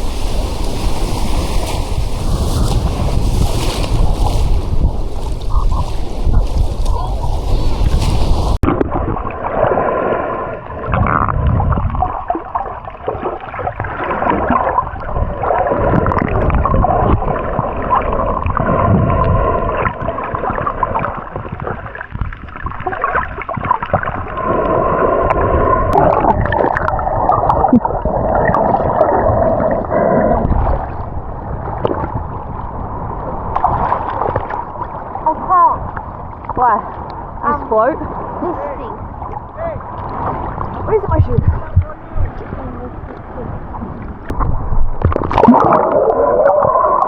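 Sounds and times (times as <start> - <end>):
muffled underwater water gurgling: 0.0 - 47.0.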